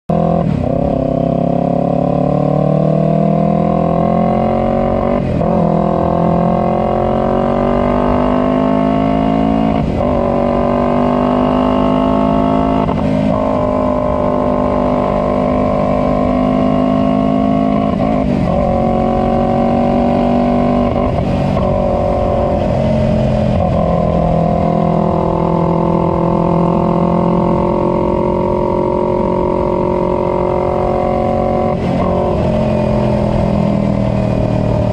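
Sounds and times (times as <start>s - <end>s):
motorcycle engine accelerating through gears: 0.1s - 34.9s.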